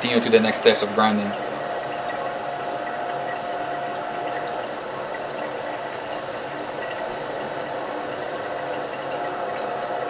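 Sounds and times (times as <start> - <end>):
water stream running: 0.0 - 10.0.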